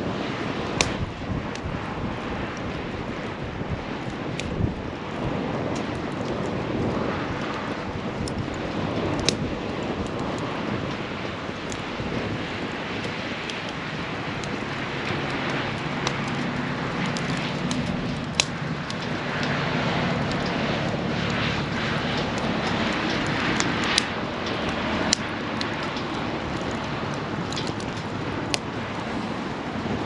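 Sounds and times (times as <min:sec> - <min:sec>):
campfire flame rushing: 0:00.0 - 0:30.0
fire crackles and pops: 0:00.0 - 0:30.0
low steady drone: 0:00.0 - 0:30.0.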